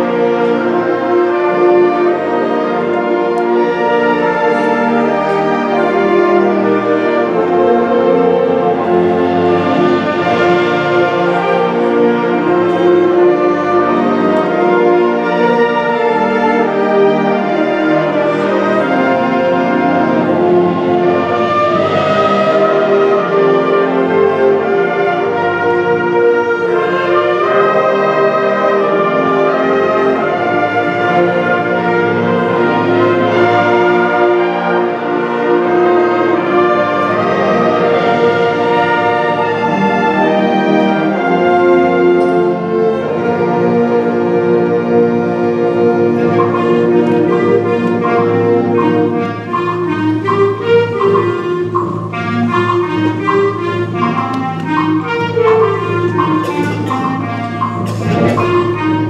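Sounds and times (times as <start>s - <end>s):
symphonic band playing chords: 0.0s - 59.0s
struck percussion notes: 2.2s - 59.0s.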